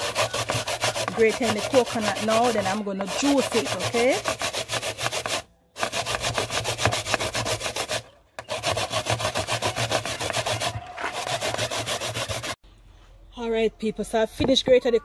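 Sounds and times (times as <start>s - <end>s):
coconut grated on metal grater: 0.0s - 12.6s.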